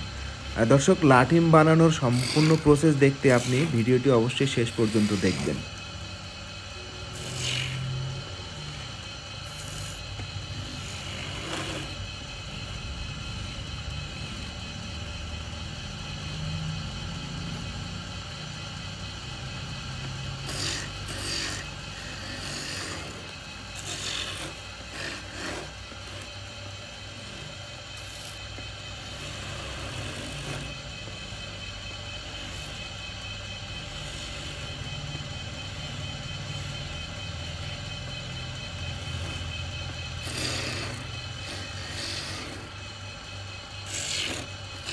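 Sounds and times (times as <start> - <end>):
chisel scraping spinning wood: 0.0 - 44.9
wood lathe running: 0.0 - 44.9.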